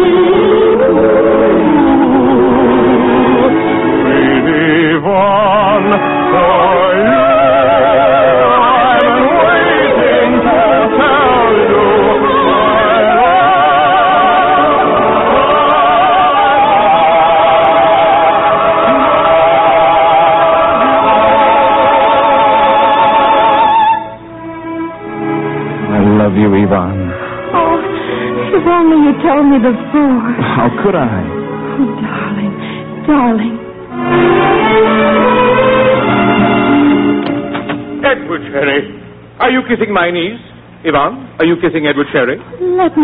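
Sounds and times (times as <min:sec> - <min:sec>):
orchestral accompaniment: 0:00.0 - 0:40.1.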